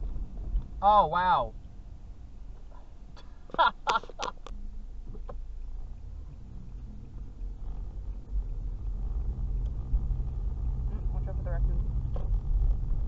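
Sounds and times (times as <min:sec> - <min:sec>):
car driving drone: 0:00.0 - 0:13.0.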